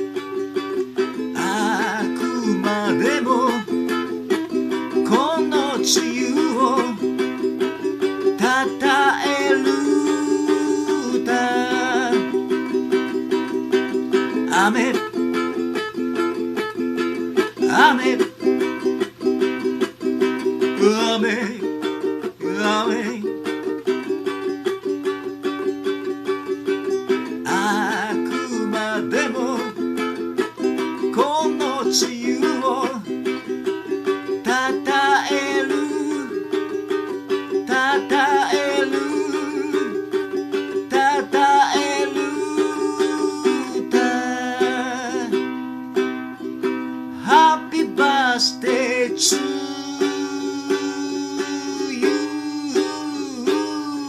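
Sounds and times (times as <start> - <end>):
person singing: 0.0 - 54.0
ukulele playing: 0.0 - 54.0.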